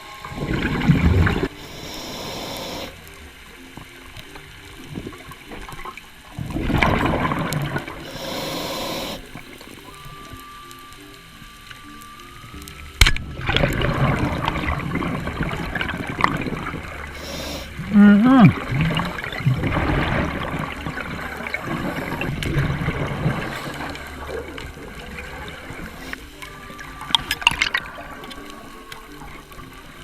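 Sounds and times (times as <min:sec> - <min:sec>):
underwater breath bubbling: 0:00.0 - 0:10.2, 0:13.0 - 0:30.0.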